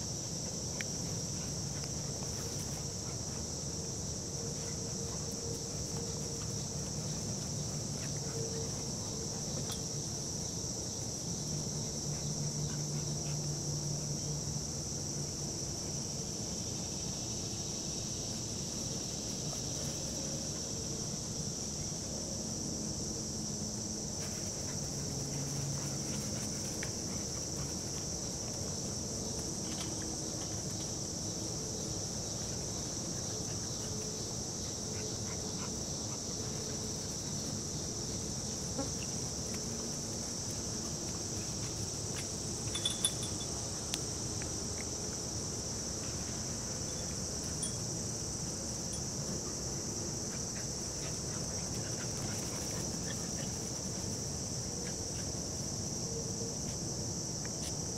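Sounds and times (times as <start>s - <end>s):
insects droning in grass: 0.0s - 57.9s.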